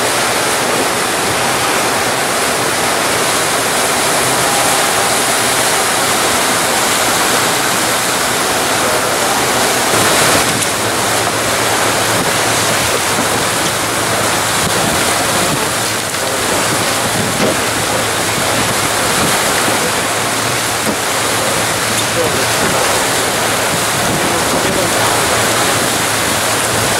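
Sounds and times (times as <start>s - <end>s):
low outboard engine hum: 0.0s - 26.9s
rush of boat wake: 0.0s - 26.9s
wind buffeting microphone: 0.0s - 26.9s.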